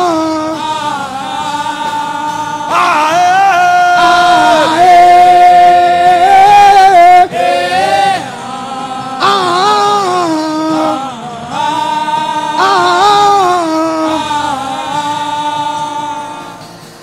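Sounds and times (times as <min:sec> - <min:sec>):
chant sung in long held notes: 0:00.0 - 0:17.0.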